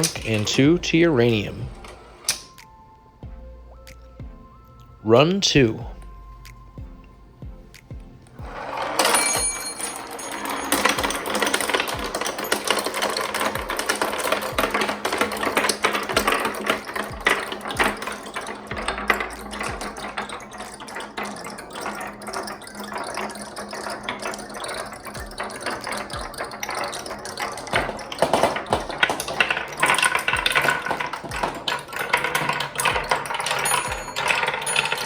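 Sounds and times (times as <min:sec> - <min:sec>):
marbles rolling and clattering: 0:00.0 - 0:02.7, 0:07.8 - 0:35.0.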